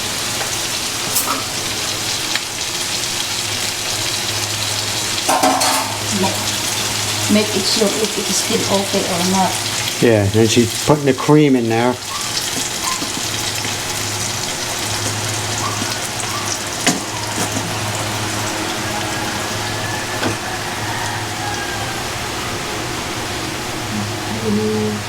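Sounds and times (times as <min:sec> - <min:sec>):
chicken sizzling in a pan: 0:00.0 - 0:24.2.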